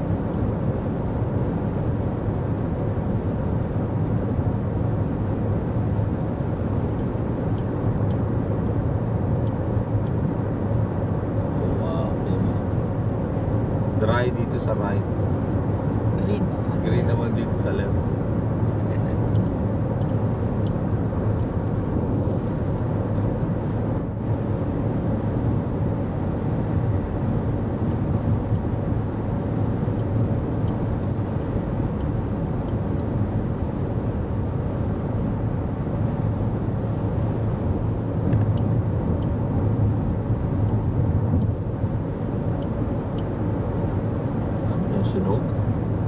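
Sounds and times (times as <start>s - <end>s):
car engine hum: 0.0s - 46.0s.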